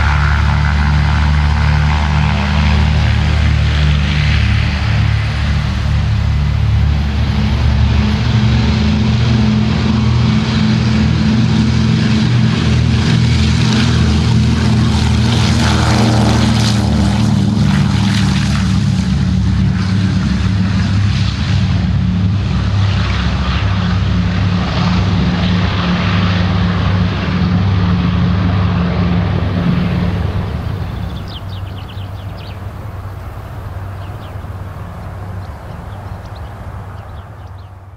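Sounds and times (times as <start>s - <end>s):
propeller aircraft engines roaring: 0.0s - 37.9s.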